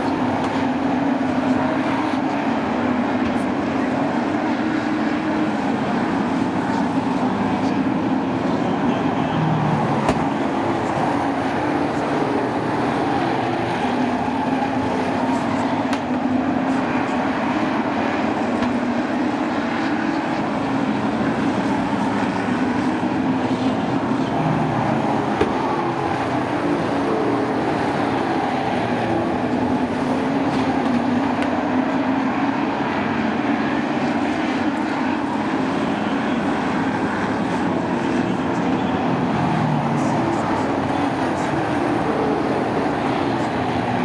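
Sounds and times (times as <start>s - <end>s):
racing truck engines: 0.0s - 44.0s.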